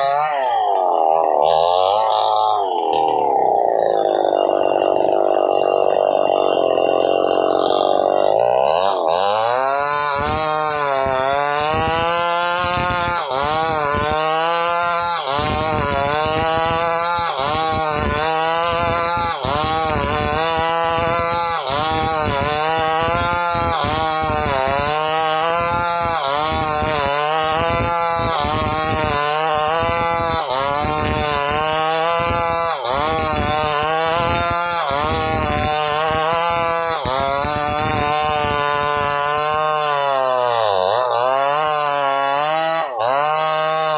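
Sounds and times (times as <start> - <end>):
chainsaw cutting timber: 0.0 - 43.9.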